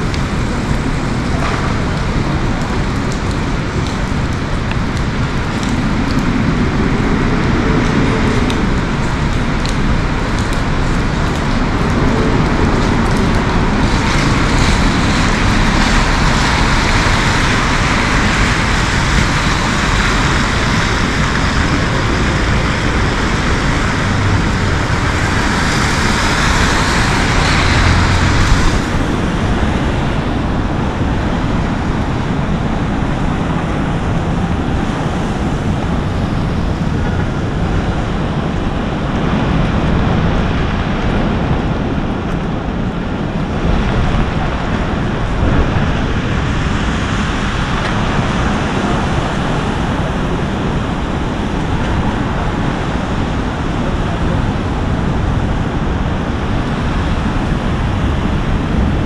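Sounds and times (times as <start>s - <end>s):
heavy rain on wet road: 0.0s - 59.0s
low traffic rumble: 0.0s - 59.0s.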